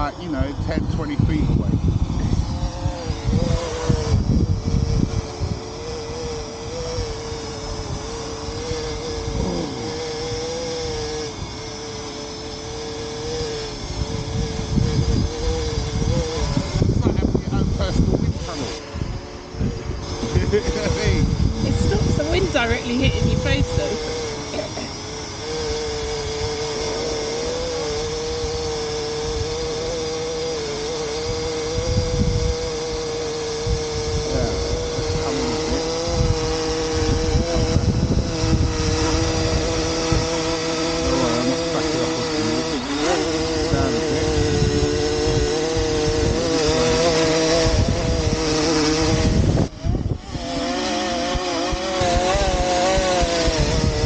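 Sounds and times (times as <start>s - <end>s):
drone propellers whining: 0.0s - 54.0s
wind buffeting microphone: 0.0s - 54.0s.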